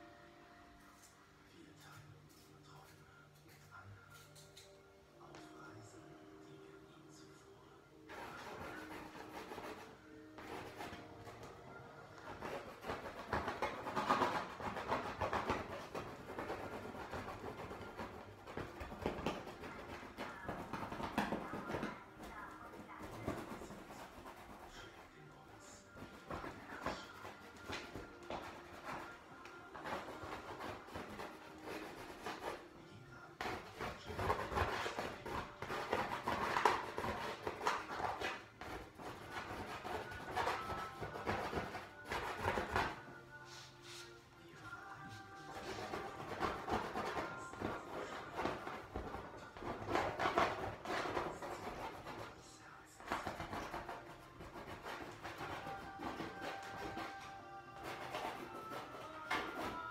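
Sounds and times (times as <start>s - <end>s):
paint strokes scraping on canvas: 8.1s - 32.8s, 33.4s - 44.2s, 44.8s - 59.9s.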